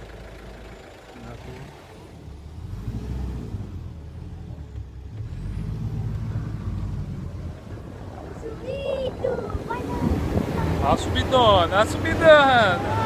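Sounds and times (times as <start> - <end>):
low road rumble: 0.0 - 13.0
vehicle engine running: 0.0 - 13.0.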